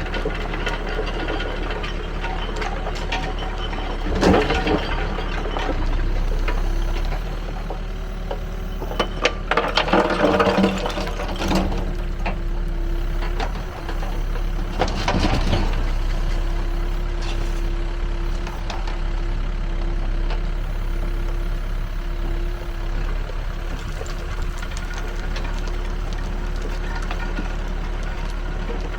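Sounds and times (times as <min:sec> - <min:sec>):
backhoe diesel engine running: 0:00.0 - 0:28.9
soil and rubble rattling: 0:00.0 - 0:28.9.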